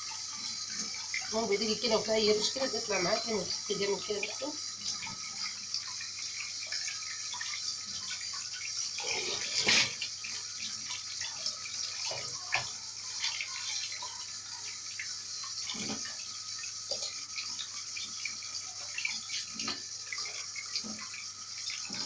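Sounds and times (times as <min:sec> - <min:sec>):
knocks and splashes of rinsing: 0:00.0 - 0:22.0
tap water running into sink: 0:00.0 - 0:22.0.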